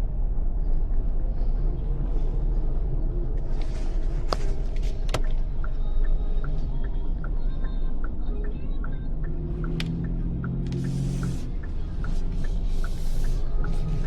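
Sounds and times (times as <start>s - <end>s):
car cabin rumble while driving: 0.0s - 14.0s.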